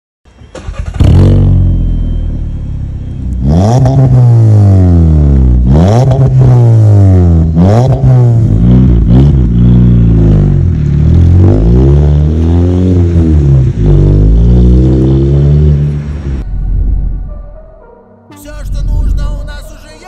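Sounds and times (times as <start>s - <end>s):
car engine revving: 0.5s - 17.4s.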